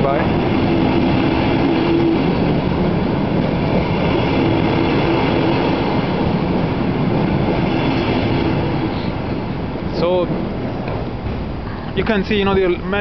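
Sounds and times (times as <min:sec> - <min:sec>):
train rumbling over steel bridge: 0:00.0 - 0:13.0.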